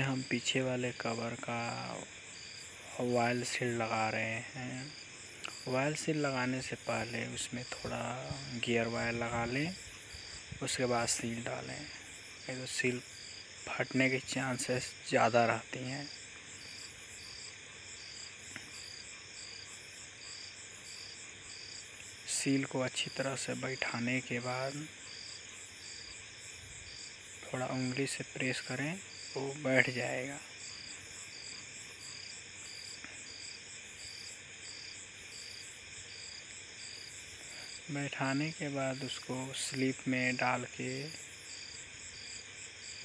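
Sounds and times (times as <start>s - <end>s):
faint background noise: 0.0s - 43.0s
high-pitched insect-like chirping: 0.0s - 43.0s
steady hiss: 0.0s - 43.0s.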